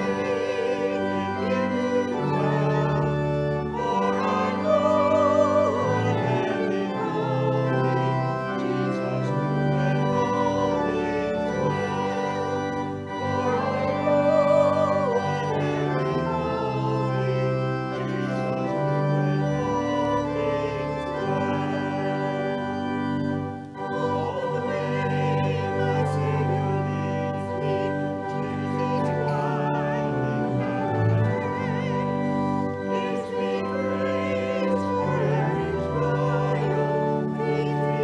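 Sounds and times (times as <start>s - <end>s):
congregation and choir singing a hymn: 0.0s - 38.0s
organ chords: 0.0s - 38.0s.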